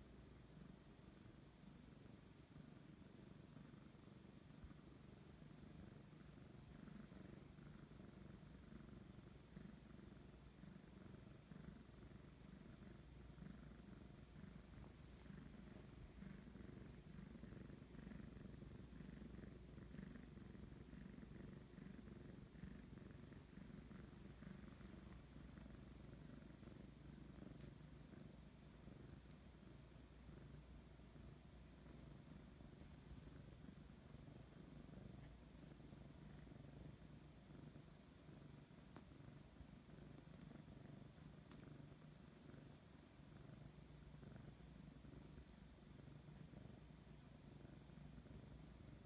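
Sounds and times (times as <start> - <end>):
cat purring: 0.0 - 49.0.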